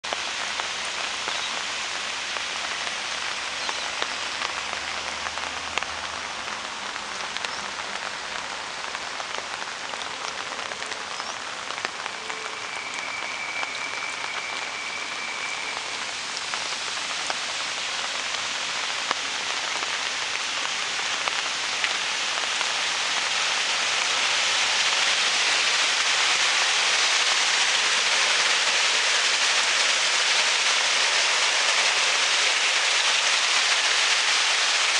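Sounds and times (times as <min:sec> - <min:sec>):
rain falling on rocks and concrete: 0:00.0 - 0:34.9.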